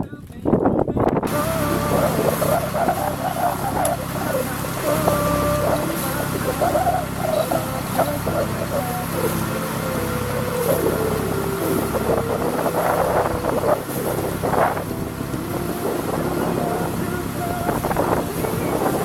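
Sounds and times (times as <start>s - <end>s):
boat engine running: 0.8s - 19.0s
indistinct voices: 0.9s - 19.0s.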